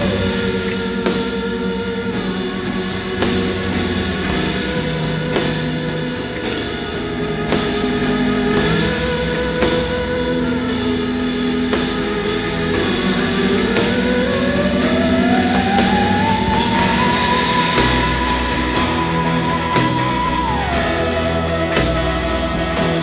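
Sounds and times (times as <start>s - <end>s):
drums: 0.0s - 23.0s
rock band playing: 0.0s - 23.0s
sliding lead guitar line: 0.0s - 23.0s.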